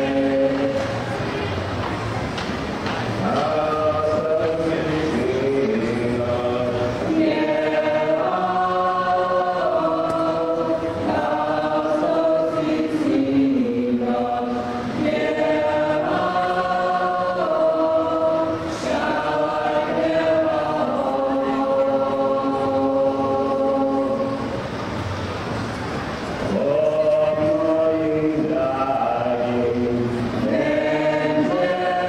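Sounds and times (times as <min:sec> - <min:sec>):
group singing unaccompanied: 0:00.0 - 0:01.4, 0:03.1 - 0:24.8, 0:26.4 - 0:32.0.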